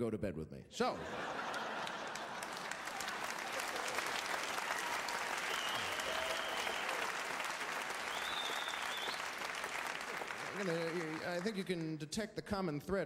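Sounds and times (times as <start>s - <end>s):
audience applauding: 1.1s - 12.0s.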